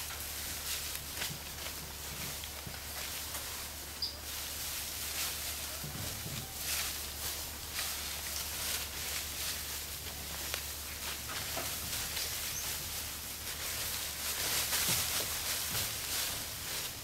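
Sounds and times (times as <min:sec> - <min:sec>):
dry leaves rustling: 0:00.0 - 0:17.0
outdoor hiss: 0:00.0 - 0:17.0.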